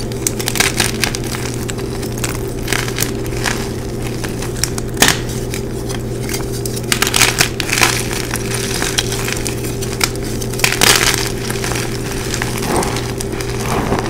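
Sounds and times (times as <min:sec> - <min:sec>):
chalk crunching by hand: 0:00.4 - 0:14.0.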